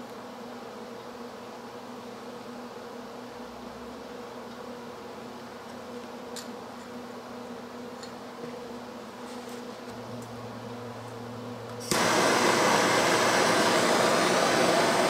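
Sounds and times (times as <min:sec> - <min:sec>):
low electrical buzz: 0:00.0 - 0:15.0.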